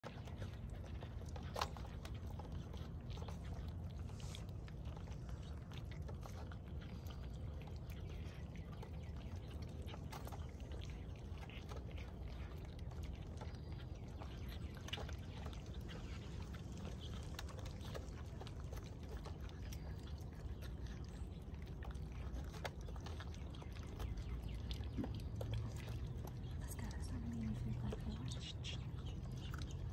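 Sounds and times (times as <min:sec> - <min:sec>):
low background rumble: 0:00.0 - 0:29.9
puppies crunching dry kibble: 0:00.0 - 0:29.9.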